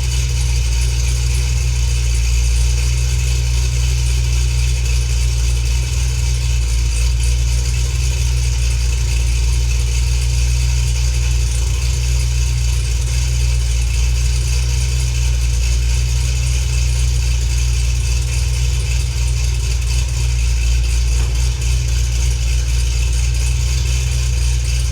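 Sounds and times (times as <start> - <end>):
car engine idling loudly: 0.0 - 24.9.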